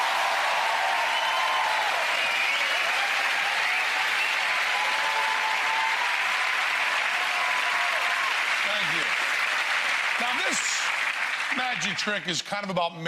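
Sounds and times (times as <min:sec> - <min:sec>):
voices cheering: 0:00.0 - 0:12.2
audience applauding: 0:00.0 - 0:12.7.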